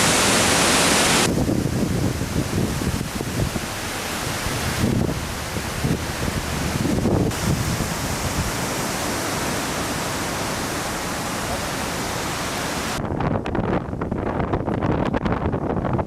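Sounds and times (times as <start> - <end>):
steady rushing hiss: 0.0 - 13.0
wind buffeting microphone: 0.0 - 16.0.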